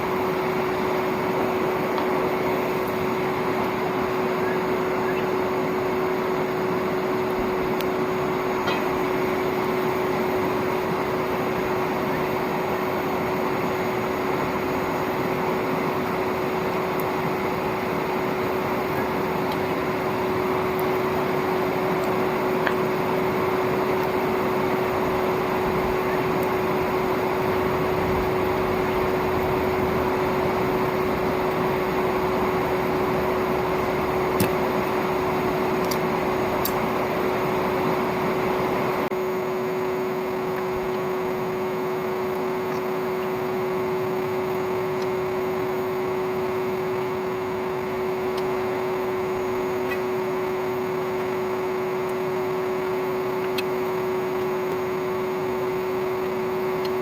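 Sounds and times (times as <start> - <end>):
vacuum cleaner motor whirring: 0.0 - 57.0.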